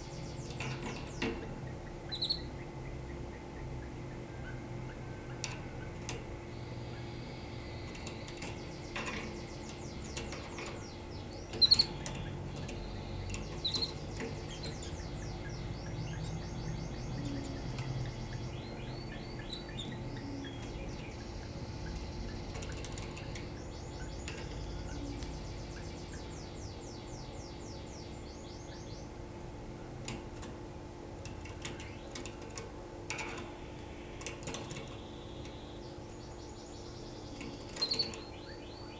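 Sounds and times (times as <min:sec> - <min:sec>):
canary singing trills: 0:00.0 - 0:29.3, 0:31.2 - 0:38.9
low steady hum: 0:00.0 - 0:38.9.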